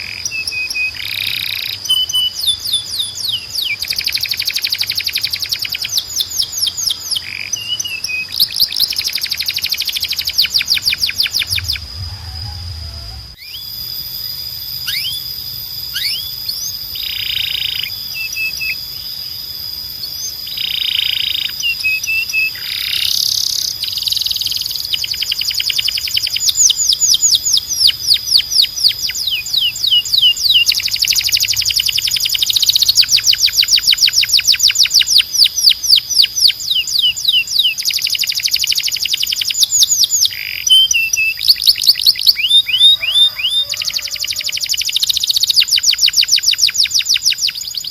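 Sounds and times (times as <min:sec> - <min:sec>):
canary singing rapid trills: 0:00.0 - 0:47.9
steady high whistle-like tone: 0:00.0 - 0:47.9.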